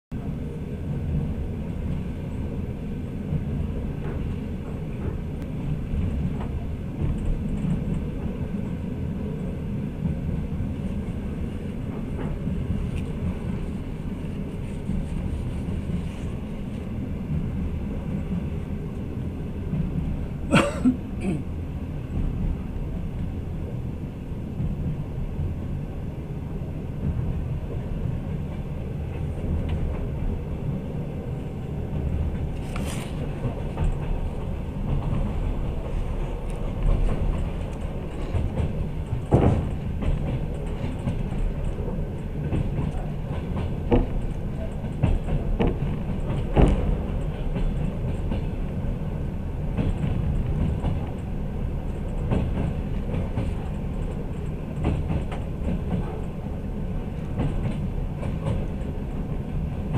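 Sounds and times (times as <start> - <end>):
train rumbling: 0.1 - 59.9.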